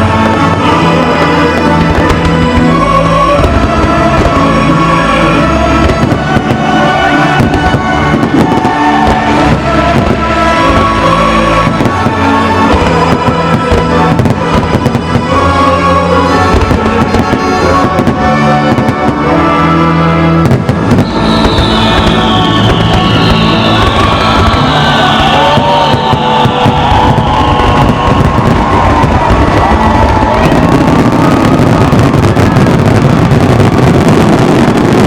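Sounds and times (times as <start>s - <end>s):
fireworks bangs and crackles: 0.0s - 35.0s
loud music: 0.0s - 35.0s.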